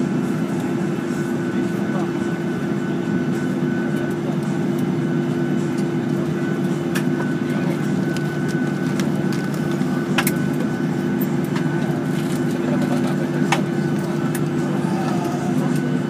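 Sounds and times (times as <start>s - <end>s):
aircraft cabin engine hum: 0.0s - 16.0s
high engine whine: 0.0s - 16.0s.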